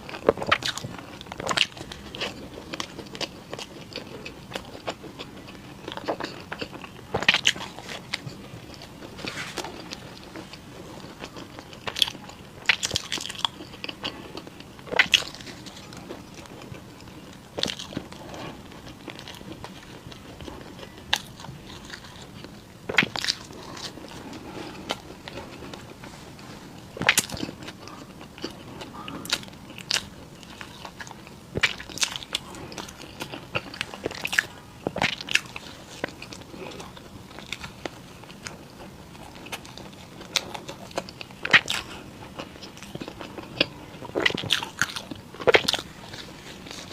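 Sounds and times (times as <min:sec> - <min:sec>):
chewing: 0:00.0 - 0:46.9.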